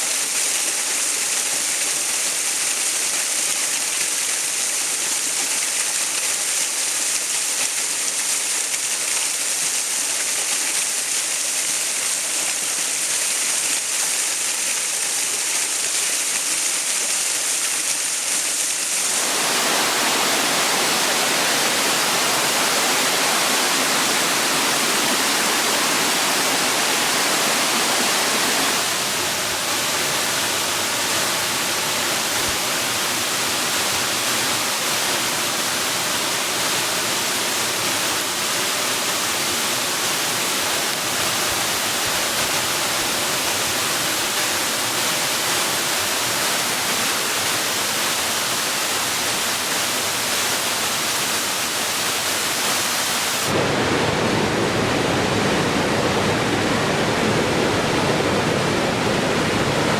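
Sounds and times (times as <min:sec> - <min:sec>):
falling water rushing: 0:02.6 - 0:59.9.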